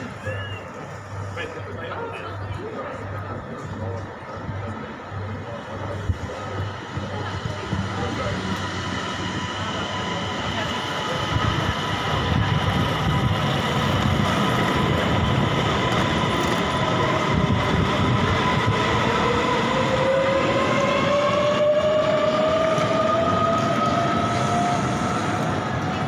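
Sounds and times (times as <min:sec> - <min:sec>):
train running gear whining: 0:00.0 - 0:26.0
train wheels rumbling on rail: 0:00.0 - 0:26.0.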